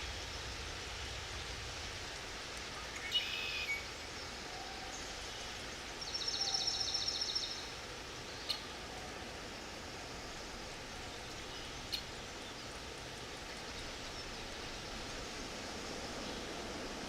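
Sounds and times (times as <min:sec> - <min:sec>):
steady rushing noise: 0:00.0 - 0:06.2, 0:07.6 - 0:17.0.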